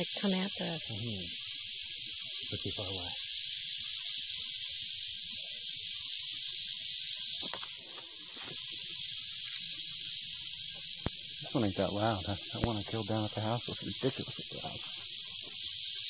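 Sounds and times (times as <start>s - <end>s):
rattlesnake tail rattle buzzing: 0.0s - 16.0s.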